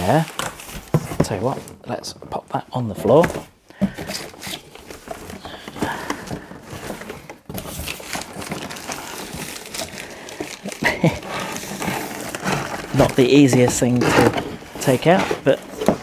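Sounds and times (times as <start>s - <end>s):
cardboard rustling and scraping: 0.0s - 16.0s.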